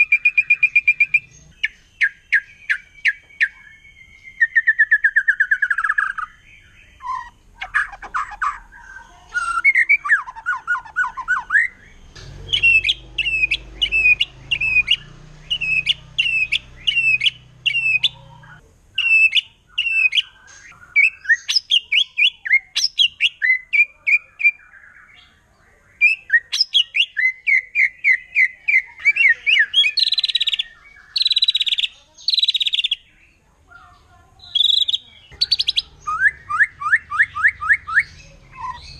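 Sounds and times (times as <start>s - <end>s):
bird singing rapid whistled notes: 0.0s - 33.4s, 34.4s - 38.9s.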